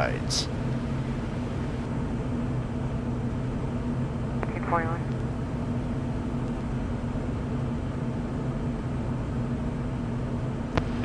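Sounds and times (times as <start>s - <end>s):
low jet engine hum: 0.0s - 11.0s.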